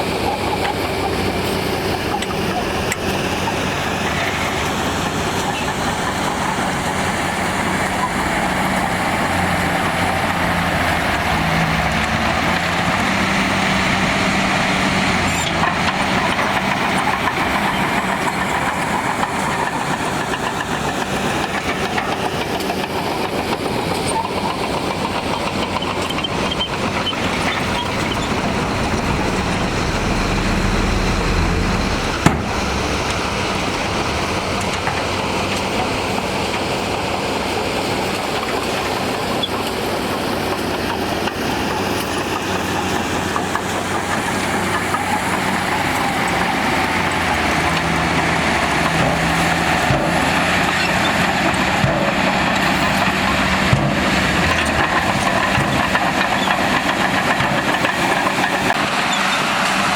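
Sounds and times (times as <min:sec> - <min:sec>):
diesel engines under load: 0:00.0 - 0:59.9.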